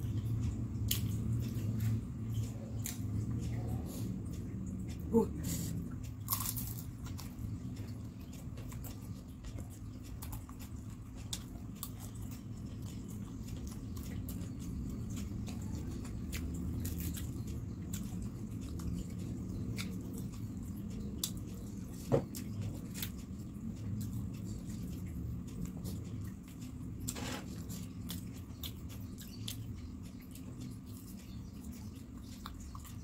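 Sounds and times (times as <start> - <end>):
crunchy chewing: 0.0 - 33.0
low steady hum: 0.0 - 33.0.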